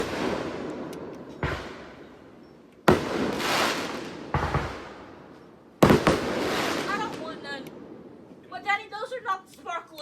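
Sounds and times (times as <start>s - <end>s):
fireworks bangs: 0.0s - 8.3s.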